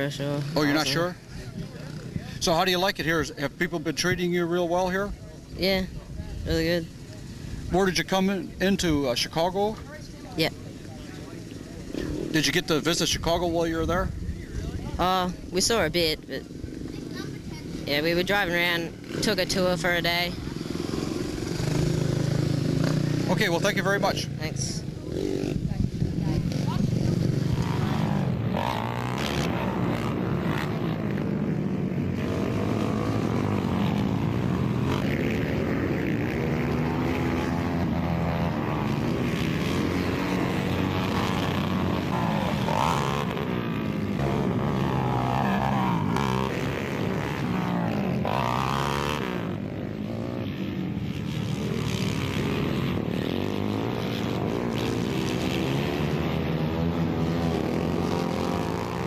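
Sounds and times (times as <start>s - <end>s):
racing motorcycles passing: 0.0s - 59.0s.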